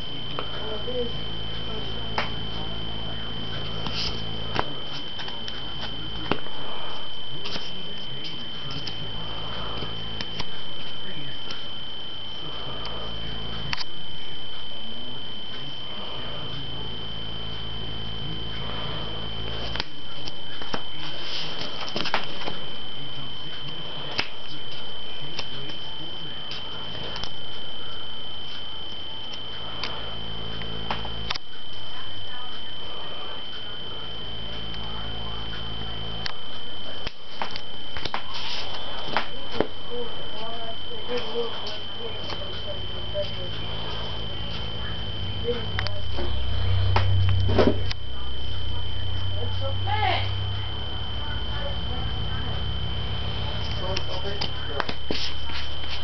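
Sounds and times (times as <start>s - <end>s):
high-pitched electrical whine: 0.0s - 56.0s
low hum: 0.0s - 56.0s.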